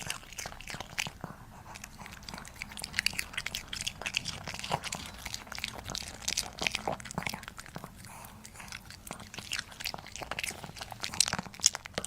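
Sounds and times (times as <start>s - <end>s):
puppy chewing crunchy snack: 0.0s - 12.0s.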